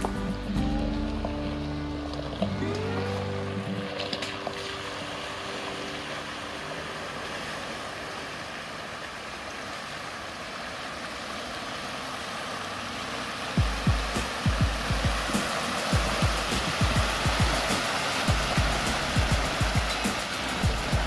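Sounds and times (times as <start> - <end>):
vehicle engine running: 0.0 - 21.0
water sloshing around tyres: 0.0 - 21.0.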